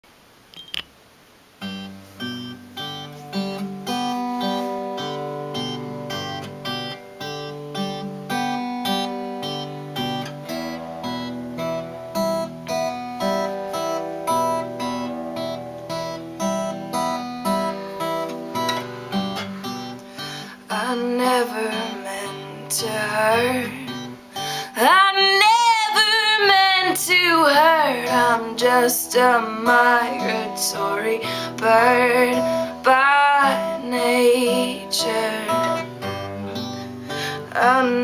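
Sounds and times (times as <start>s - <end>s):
acoustic guitar strumming: 1.6s - 38.0s.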